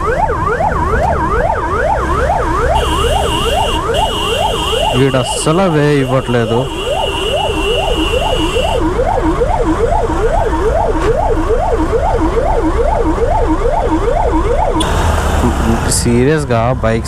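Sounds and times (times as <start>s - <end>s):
emergency siren yelping: 0.0s - 16.1s.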